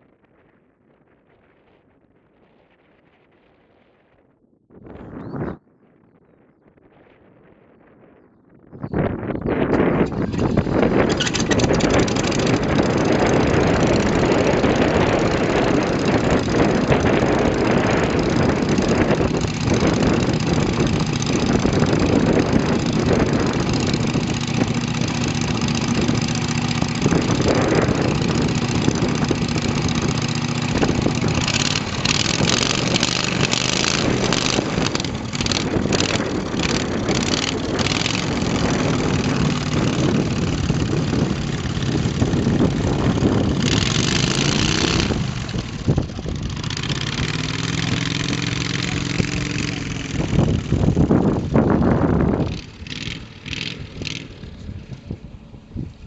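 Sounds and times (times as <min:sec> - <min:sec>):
propeller engine idling: 0:09.6 - 0:56.0.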